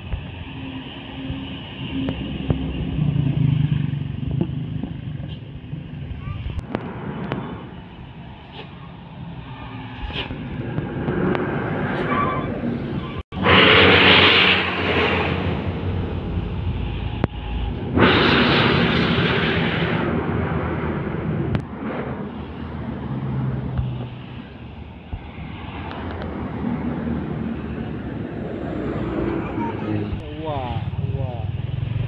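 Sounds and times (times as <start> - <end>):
trucks and motorbikes passing: 0.0 - 32.0
vehicles rushing past: 0.0 - 32.0.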